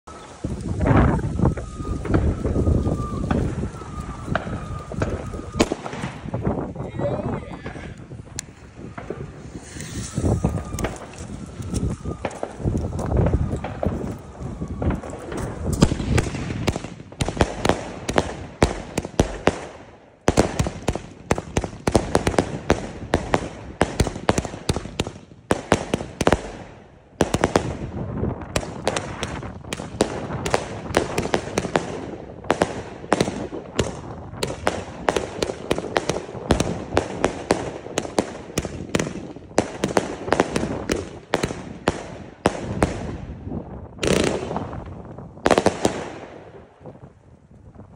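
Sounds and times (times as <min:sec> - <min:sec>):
firework shots and bursts: 0:00.1 - 0:47.1.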